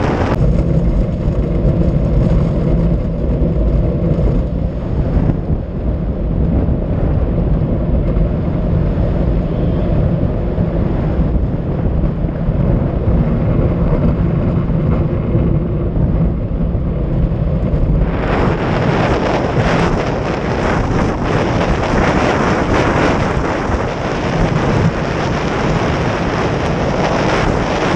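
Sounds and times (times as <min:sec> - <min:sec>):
wheels rumbling on asphalt: 0:00.0 - 0:27.9
wind buffeting microphone: 0:00.0 - 0:27.9.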